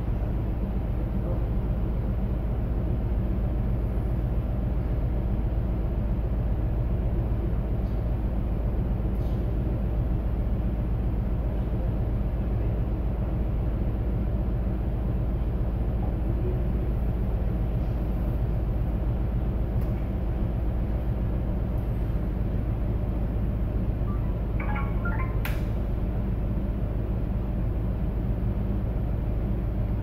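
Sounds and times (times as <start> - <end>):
ship engine rumble and hum: 0.0 - 30.0.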